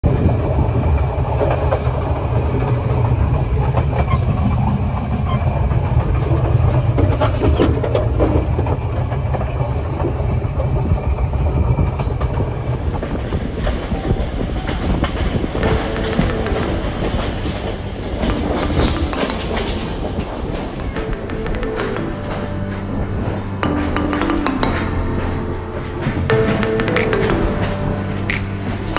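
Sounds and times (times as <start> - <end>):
train clickety-clack and rattling: 0.0 - 28.9
train wheels rumbling on rails: 0.0 - 28.9.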